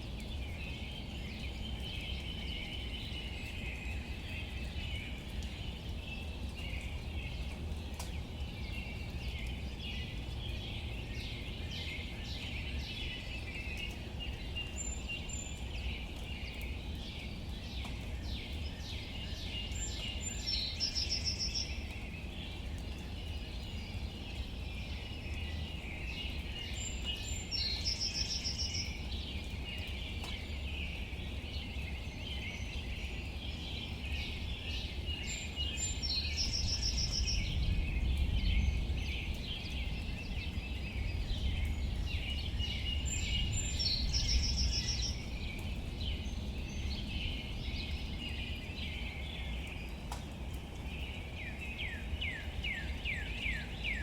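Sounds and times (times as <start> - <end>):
birds chirping and calling: 0.3 - 50.3.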